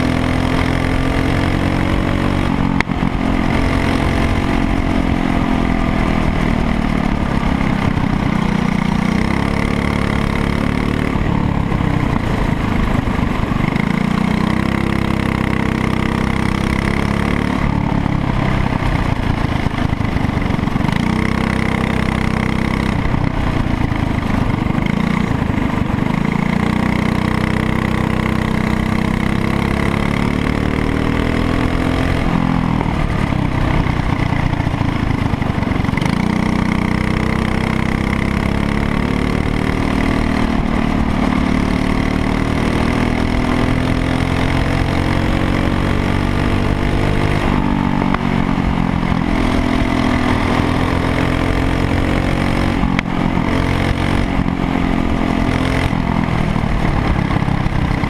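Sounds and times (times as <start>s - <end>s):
racing kart engine revving: 0.0s - 58.0s.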